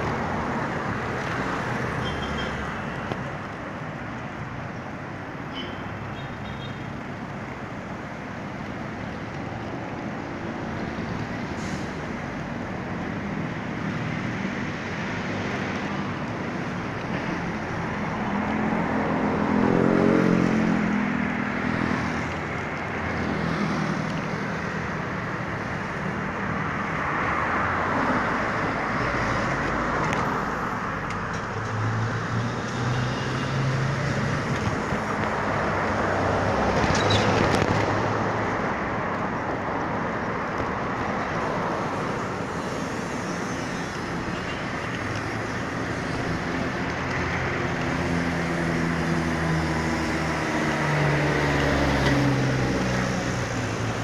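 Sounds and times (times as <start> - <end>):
passing cars and trucks: 0.0 - 54.0.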